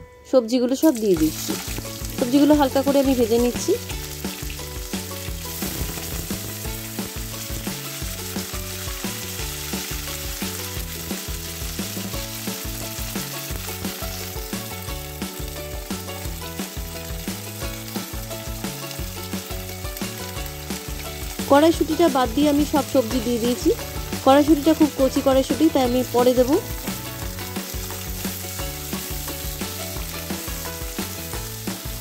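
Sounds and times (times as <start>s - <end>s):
vegetables sizzling in hot oil: 0.7s - 32.0s.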